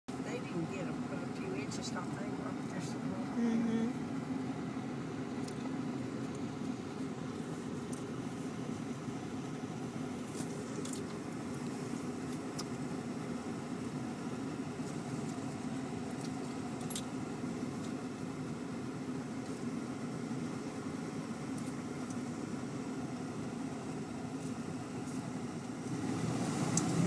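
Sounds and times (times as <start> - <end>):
low mechanical rumble: 0.1 - 27.0.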